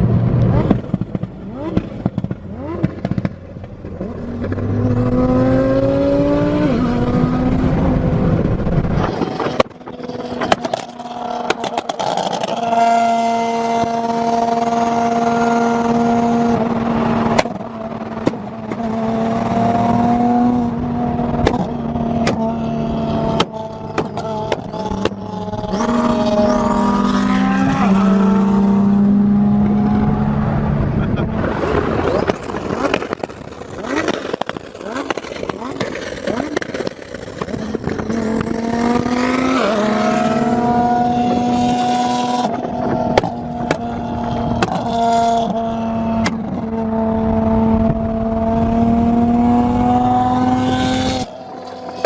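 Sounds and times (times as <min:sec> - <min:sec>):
tyre noise: 0:00.5 - 0:46.8
car engine revving hard: 0:04.0 - 0:52.0.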